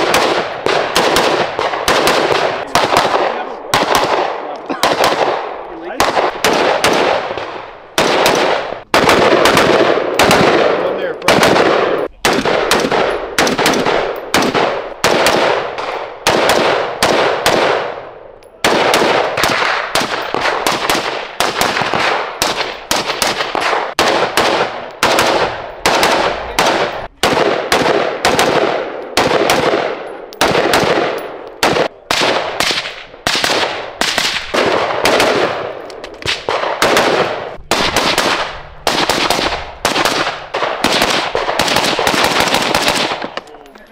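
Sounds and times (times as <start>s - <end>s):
rifle shots cracking: 0.0s - 43.5s.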